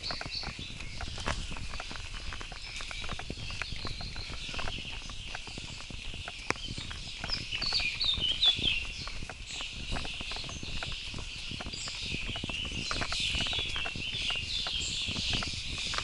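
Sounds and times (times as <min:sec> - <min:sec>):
bird chirping: 0:00.0 - 0:16.0
running footsteps on wooden boardwalk: 0:00.0 - 0:16.0.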